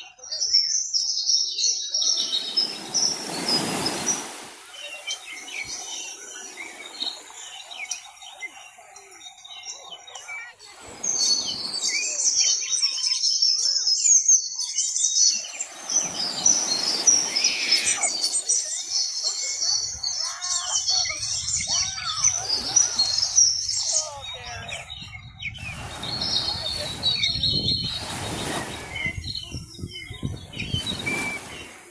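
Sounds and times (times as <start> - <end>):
small birds chirping chorus: 0.0 - 31.9.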